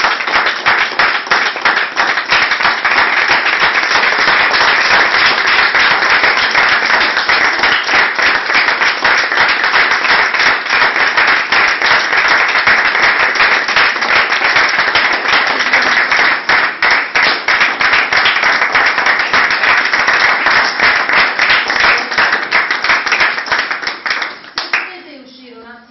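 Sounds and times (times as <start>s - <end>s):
people applauding: 0.0s - 25.0s.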